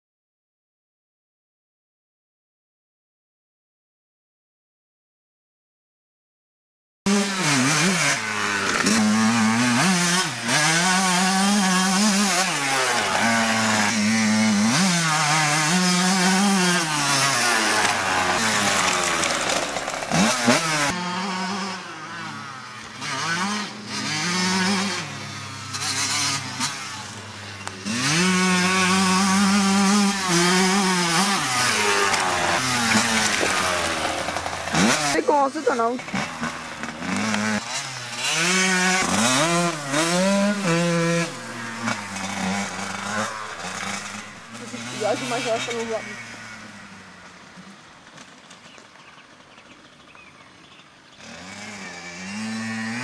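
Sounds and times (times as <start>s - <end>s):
dirt bike engine revving: 7.1s - 53.0s.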